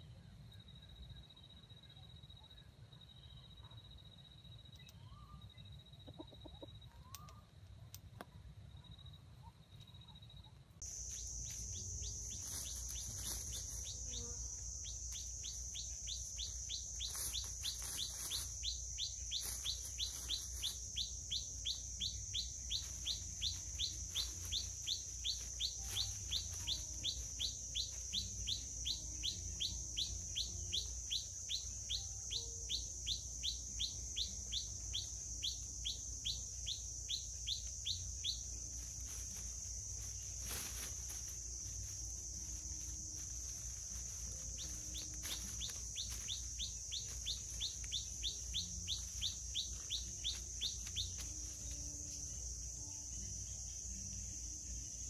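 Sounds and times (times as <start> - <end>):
bird chirps: 8.8 - 55.0
high-pitched insect drone: 10.8 - 55.0.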